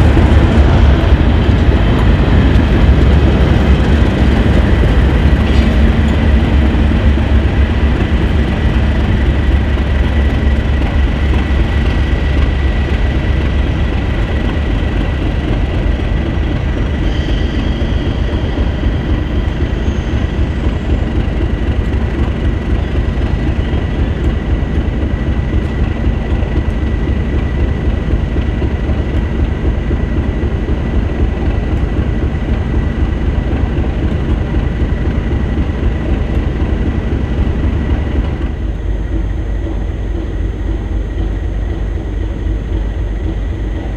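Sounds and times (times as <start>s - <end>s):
diesel locomotive engine rumble: 0.0s - 43.9s.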